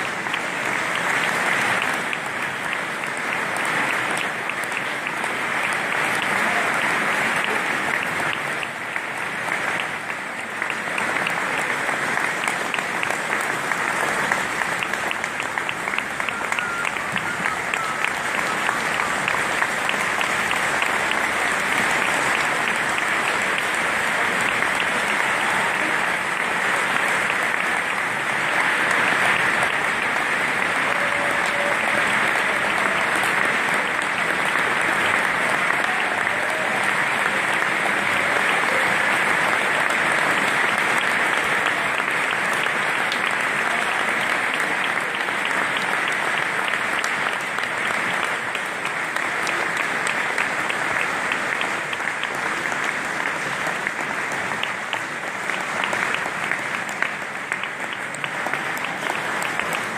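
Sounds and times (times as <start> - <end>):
large audience applauding: 0.0 - 59.9.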